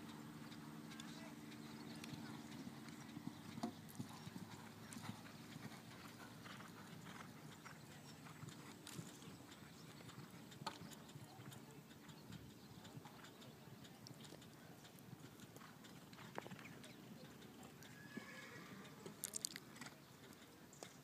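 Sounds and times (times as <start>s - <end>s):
faint hoofbeats on sand: 0.0s - 21.0s.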